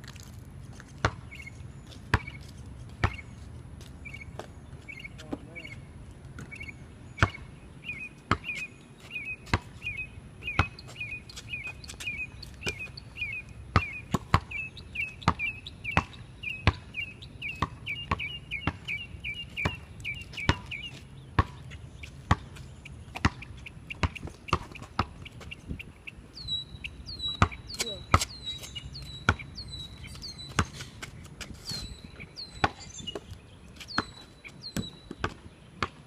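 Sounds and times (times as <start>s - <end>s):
basketball bouncing on pavement: 0.0s - 36.0s
bird chirping: 1.2s - 36.0s.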